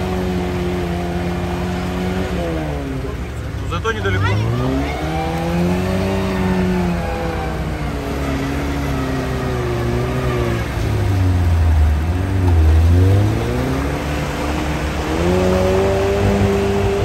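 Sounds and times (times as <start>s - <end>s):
car engine revving under load: 0.0s - 17.0s.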